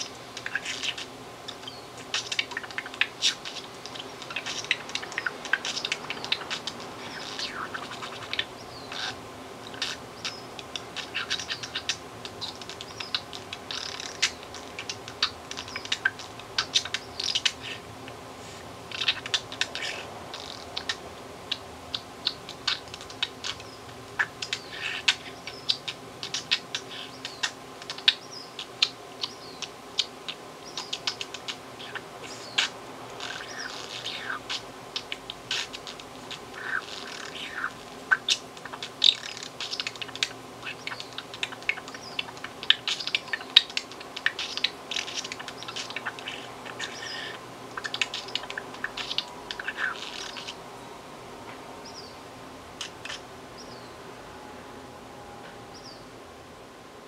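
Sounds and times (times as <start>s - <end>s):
budgerigar chattering: 0.0s - 17.9s, 18.9s - 50.6s.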